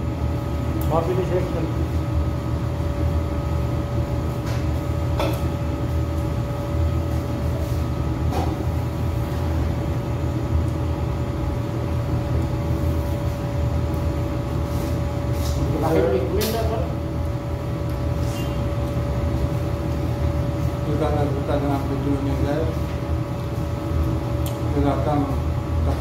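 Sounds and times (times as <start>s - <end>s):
air conditioner humming: 0.0s - 26.0s.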